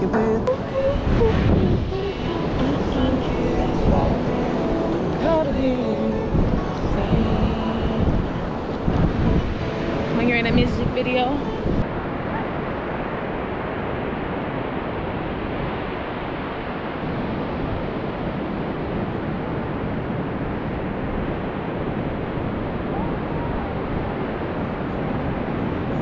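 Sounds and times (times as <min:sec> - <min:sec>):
ocean surf breaking: 0:00.0 - 0:26.0
wind on microphone: 0:00.0 - 0:26.0.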